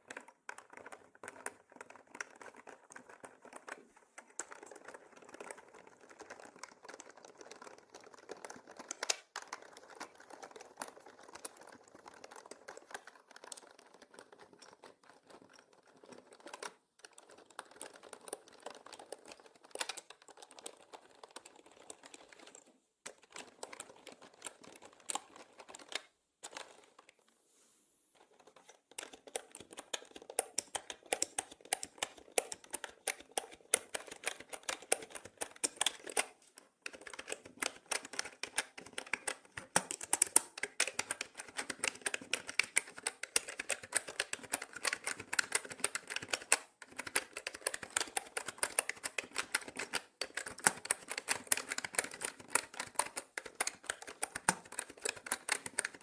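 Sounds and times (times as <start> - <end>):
mechanical keyboard typing: 0.0 - 27.2, 28.2 - 56.0.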